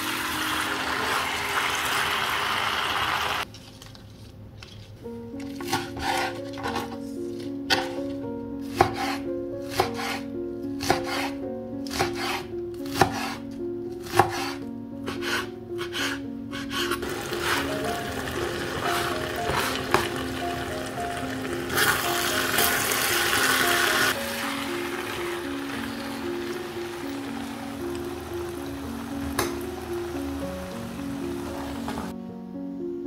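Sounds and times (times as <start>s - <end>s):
background music: 0.0s - 3.1s, 5.0s - 33.0s.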